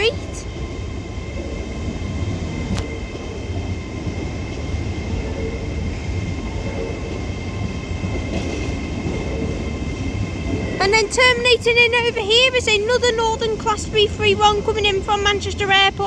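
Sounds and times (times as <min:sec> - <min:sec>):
high-pitched train whine: 0:00.0 - 0:16.0
train rumble: 0:00.0 - 0:16.0.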